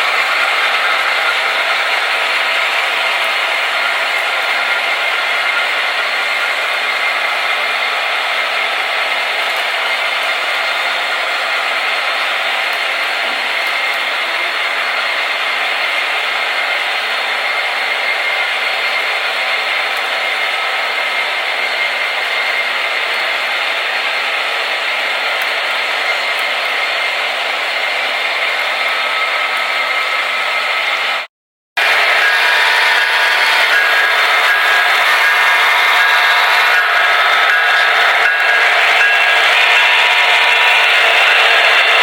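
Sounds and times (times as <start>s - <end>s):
model locomotive diesel engine sound: 0.0s - 42.0s
whir of motors and wheels on track: 0.0s - 42.0s.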